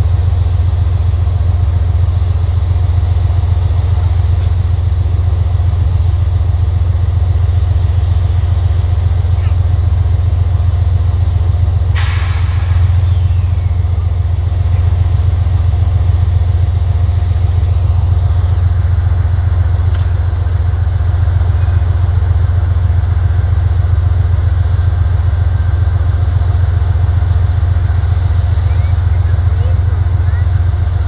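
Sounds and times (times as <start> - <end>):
diesel locomotive idling: 0.0 - 31.0.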